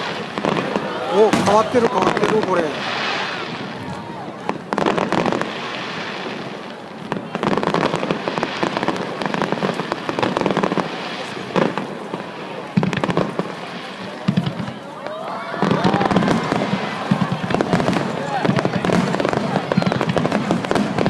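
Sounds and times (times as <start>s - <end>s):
fireworks booms: 0.0s - 21.0s
fireworks crackling: 0.0s - 21.0s.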